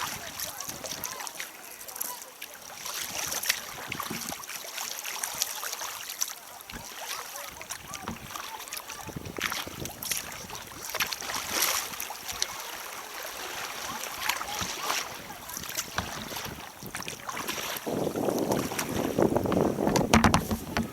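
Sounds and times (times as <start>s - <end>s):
water splashing around kayak: 0.0s - 20.9s.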